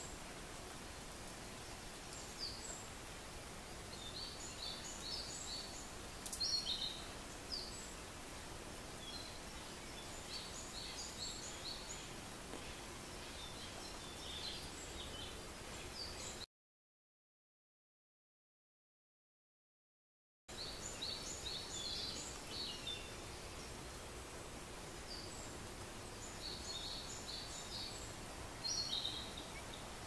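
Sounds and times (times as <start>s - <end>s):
background hiss: 0.0s - 16.5s, 20.5s - 30.0s
small birds chirping: 0.0s - 16.5s, 20.5s - 30.0s.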